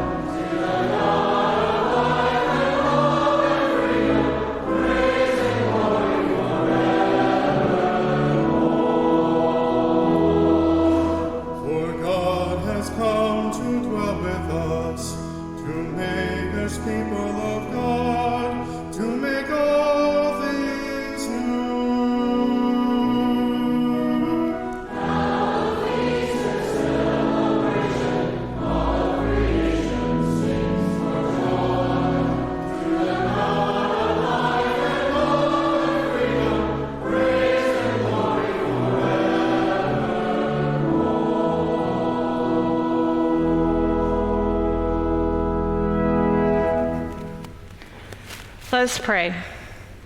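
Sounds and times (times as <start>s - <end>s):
group singing a hymn: 0.0s - 47.3s
church organ chords: 0.0s - 47.5s.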